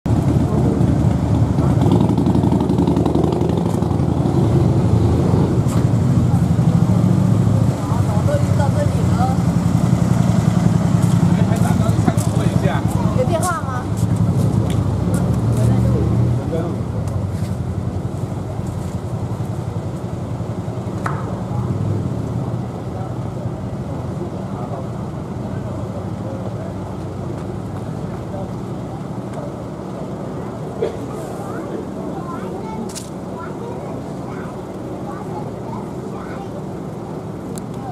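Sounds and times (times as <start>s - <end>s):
vehicle engine rumble: 0.0s - 37.9s.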